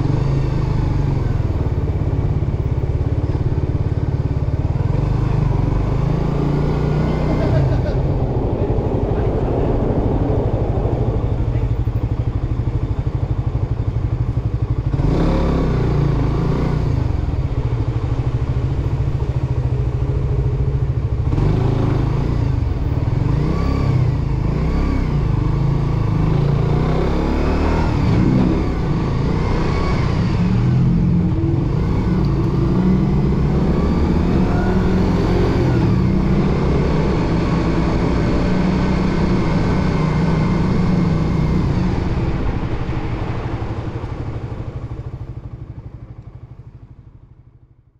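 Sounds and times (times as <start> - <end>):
motorcycle engine accelerating: 0.0 - 47.9
road and wind noise: 0.0 - 47.9.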